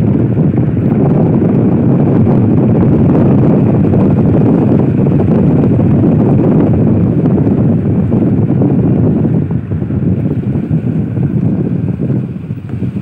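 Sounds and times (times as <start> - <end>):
car road noise: 0.0 - 13.0
wind buffeting microphone: 0.0 - 13.0.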